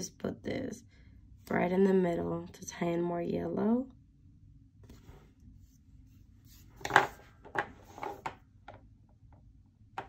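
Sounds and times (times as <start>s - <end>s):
faint room noise: 0.0s - 10.0s.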